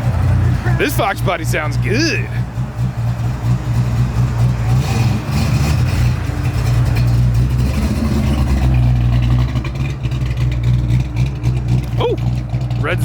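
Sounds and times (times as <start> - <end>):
car engine with deep exhaust: 0.0 - 13.0.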